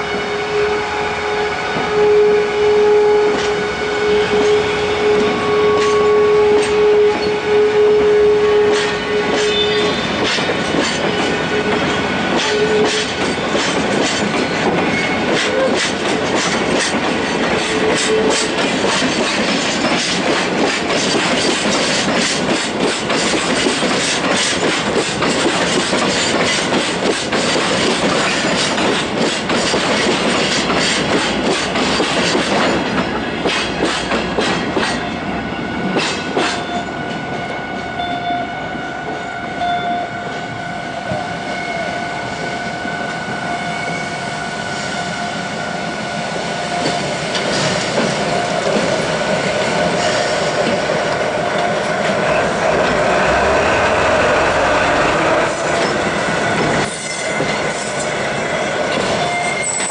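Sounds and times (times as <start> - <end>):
freight train wheels clacking: 3.2 - 38.2, 46.3 - 59.9.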